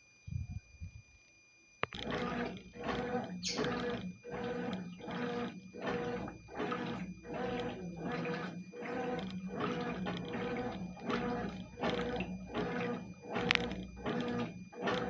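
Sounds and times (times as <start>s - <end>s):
washing machine motor hum: 1.8s - 15.0s
water sloshing: 1.9s - 15.0s.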